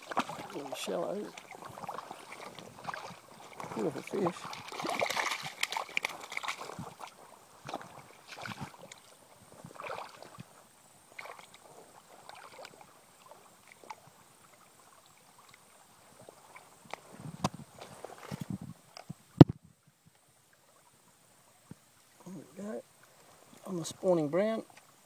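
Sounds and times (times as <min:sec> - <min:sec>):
stream water splashing: 0:00.0 - 0:25.0.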